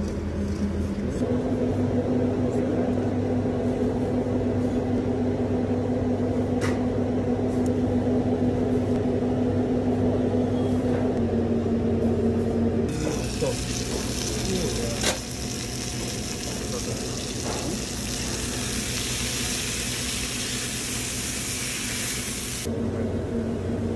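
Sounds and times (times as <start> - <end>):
kitchen equipment humming: 0.0 - 23.9.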